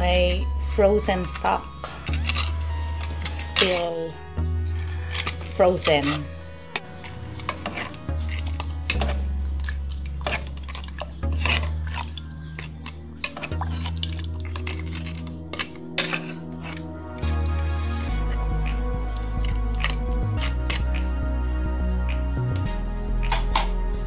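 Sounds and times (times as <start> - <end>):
background music with bass: 0.0 - 24.0
metal ladle scraping a pot: 1.2 - 21.0.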